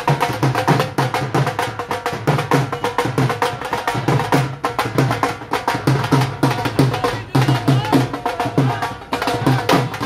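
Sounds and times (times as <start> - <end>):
drum played fast: 0.0 - 10.0.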